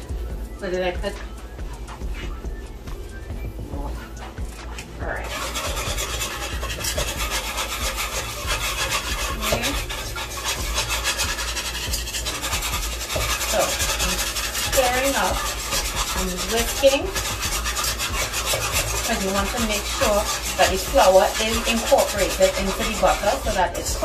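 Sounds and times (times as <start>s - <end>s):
whisk scraping pot bottom: 0.0s - 24.0s.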